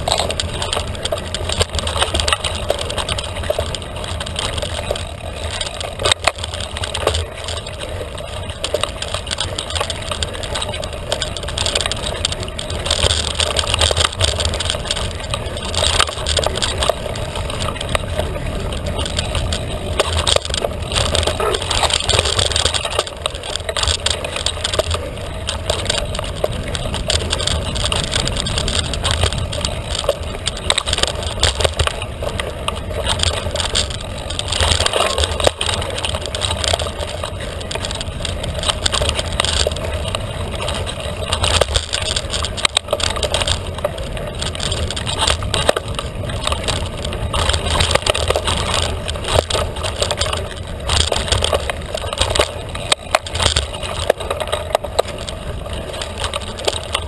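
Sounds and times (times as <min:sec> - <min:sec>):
bike knocks and rattles: 0:00.0 - 0:57.0
bike tyres on dirt trail: 0:00.0 - 0:57.0.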